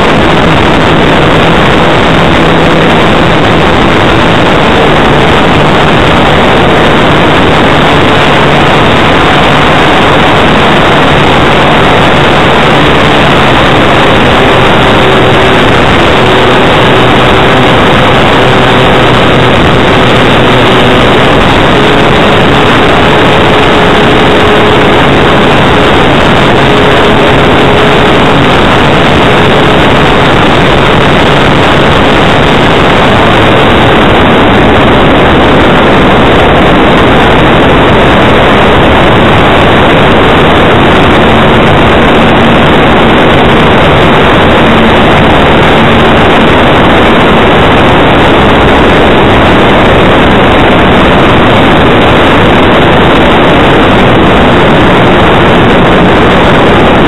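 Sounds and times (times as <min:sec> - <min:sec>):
faint model plane motor hum: 0:00.0 - 0:49.5
airflow rushing over microphone: 0:00.0 - 0:57.0.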